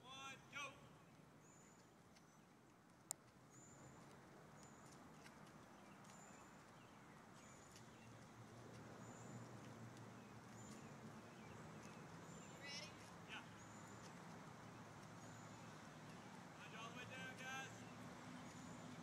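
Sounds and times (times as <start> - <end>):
faint outdoor ambience: 0.0 - 19.0.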